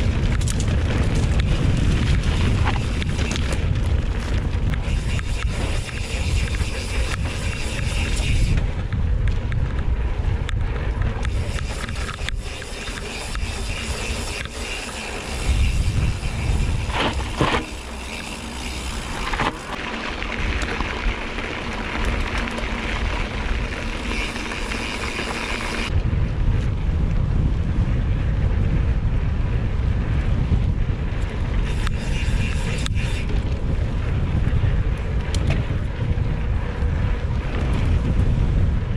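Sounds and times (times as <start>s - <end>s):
bike knocks and rattles: 0.0s - 26.7s, 31.2s - 38.9s
bike rolling over dirt: 0.0s - 38.9s
wind buffeting microphone: 0.0s - 38.9s.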